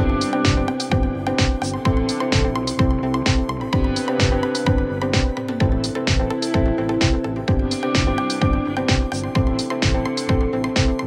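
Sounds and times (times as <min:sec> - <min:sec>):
fast drum beat: 0:00.0 - 0:11.0
held chords: 0:00.0 - 0:11.0.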